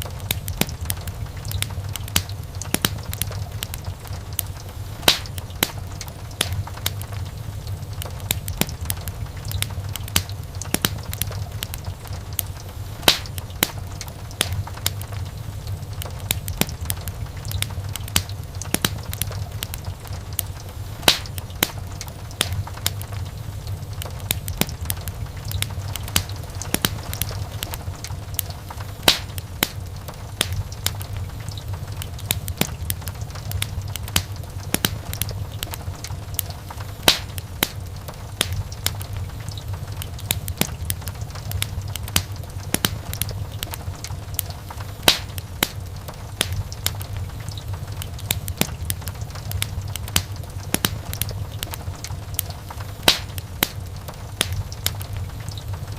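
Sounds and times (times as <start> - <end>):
loud fire pops: 0.0 - 55.9
low fire rumble: 0.0 - 55.9
wood fire crackling: 0.0 - 55.9.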